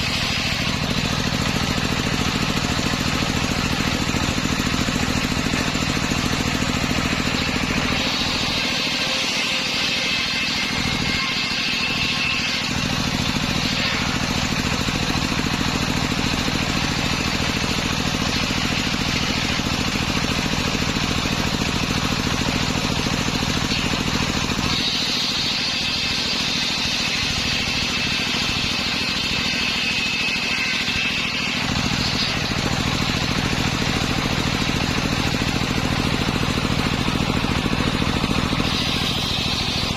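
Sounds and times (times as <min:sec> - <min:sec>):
engine-driven circular saw running: 0:00.0 - 0:39.9
saw blade whining through timber: 0:00.0 - 0:39.9.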